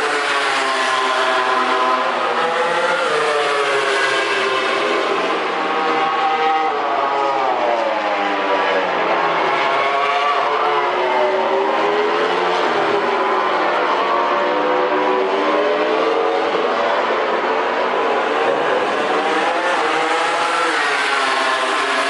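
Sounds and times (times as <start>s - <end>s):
racing motorcycle engine: 0.0s - 22.0s.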